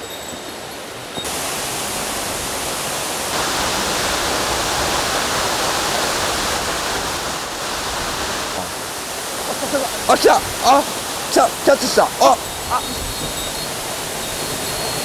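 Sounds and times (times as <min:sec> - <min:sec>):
fast-flowing stream rushing: 0:00.0 - 0:15.0.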